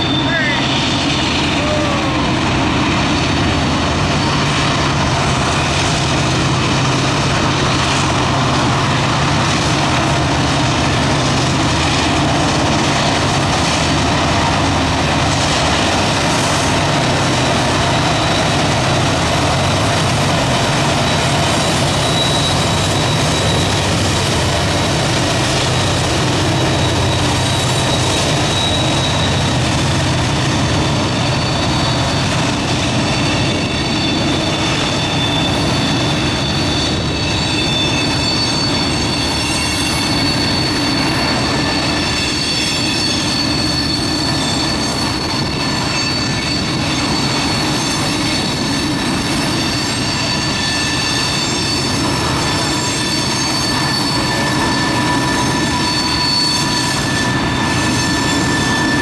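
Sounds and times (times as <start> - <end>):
wheel flange squeal: 0.0 - 2.3, 3.1 - 59.0
diesel locomotives droning: 0.0 - 59.0
rail cars rumbling: 0.0 - 59.0.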